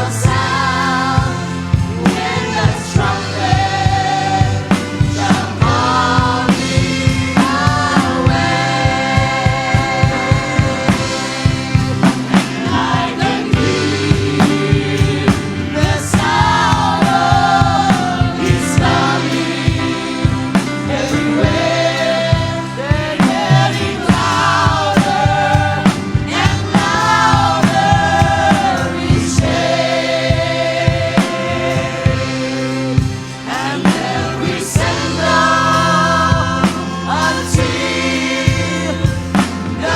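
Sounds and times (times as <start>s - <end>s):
band accompaniment: 0.0s - 39.9s
steady drum beat: 0.0s - 39.9s
voices singing with vibrato: 0.0s - 39.9s.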